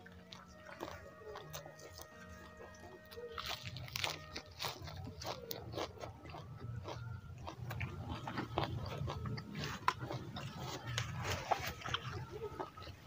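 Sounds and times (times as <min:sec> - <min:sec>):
people chewing crunchy food: 0:00.0 - 0:13.0.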